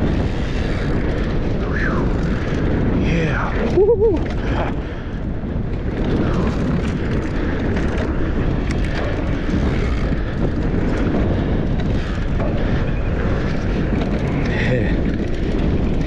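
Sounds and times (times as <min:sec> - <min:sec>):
bike clicks and rattles: 0:00.0 - 0:16.0
tyres on dirt trail: 0:00.0 - 0:16.0
wind buffeting microphone: 0:00.0 - 0:16.0.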